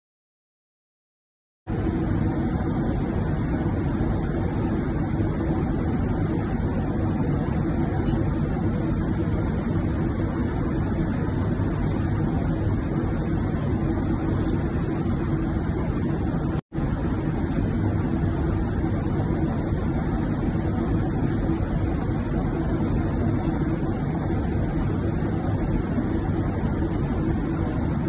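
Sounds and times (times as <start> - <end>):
airliner cabin engine rumble: 1.7 - 28.0.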